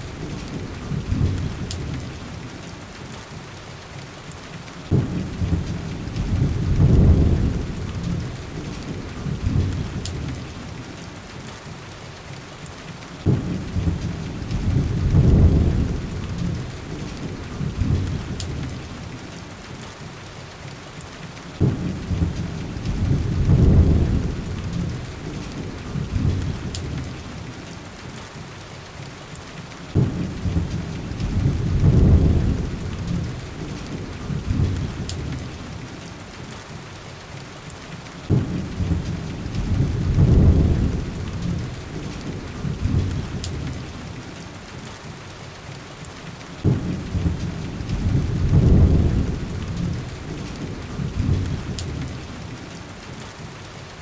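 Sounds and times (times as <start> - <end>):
heavy rain on window glass: 0.0 - 54.0.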